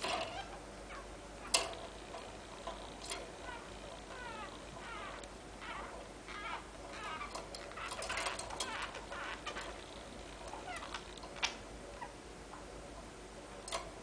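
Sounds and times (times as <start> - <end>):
canary chirping: 0.3 - 12.2.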